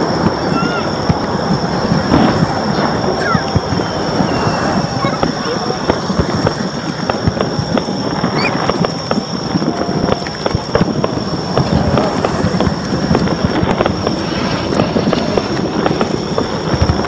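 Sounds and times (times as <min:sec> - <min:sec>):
fireworks crackling and popping: 0:00.0 - 0:17.0
steady high whine: 0:00.0 - 0:17.0.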